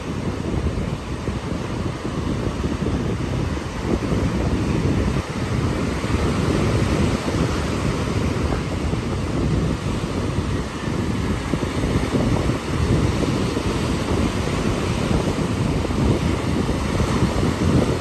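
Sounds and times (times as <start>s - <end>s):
ocean surf washing ashore: 0.0s - 18.0s
wind buffeting microphone: 0.0s - 18.0s.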